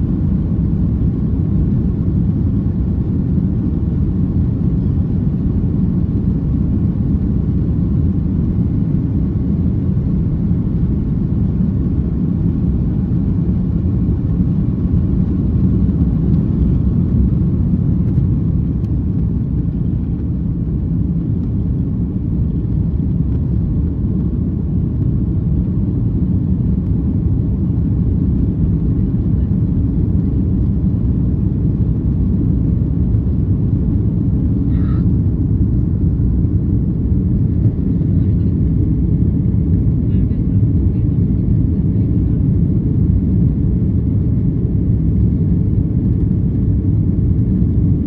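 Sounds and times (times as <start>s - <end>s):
airliner engines rumbling: 0.0s - 48.0s.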